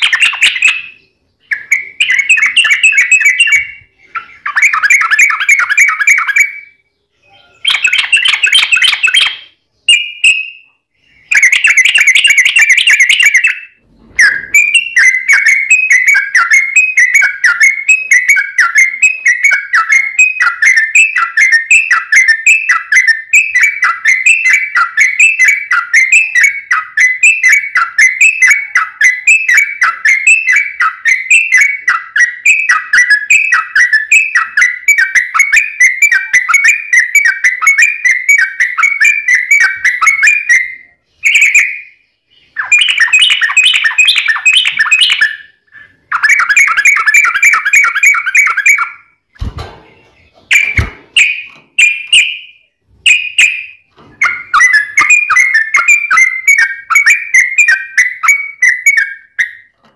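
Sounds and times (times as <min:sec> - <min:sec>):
bird harsh chatter: 0:00.0 - 0:10.4, 0:11.1 - 0:49.0, 0:49.9 - 0:59.8
bird chirping song: 0:00.0 - 0:59.9.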